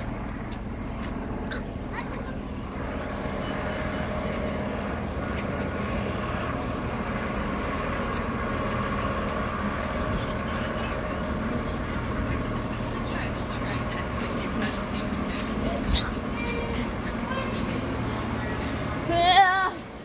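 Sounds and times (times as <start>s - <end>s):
faint tonal hum: 0.0s - 20.0s
passenger train rumbling past: 0.0s - 20.0s.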